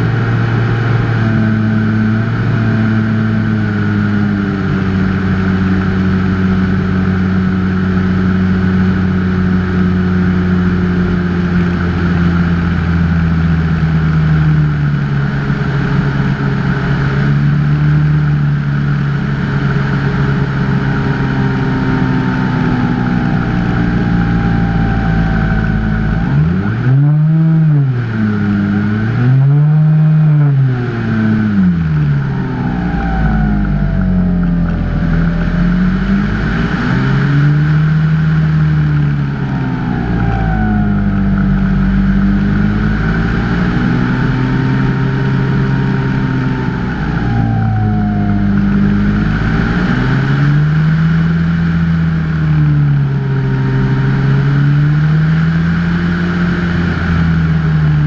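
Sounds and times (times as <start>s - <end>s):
wind noise: 0.0s - 58.0s.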